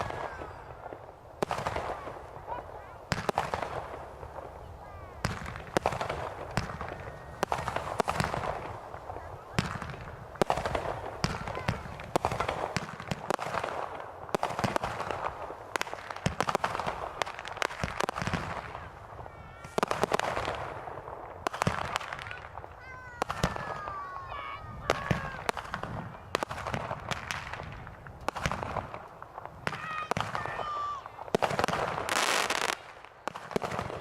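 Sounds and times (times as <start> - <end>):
fireworks bangs and crackles: 0.0 - 34.0
fireworks hissing rush: 0.0 - 34.0.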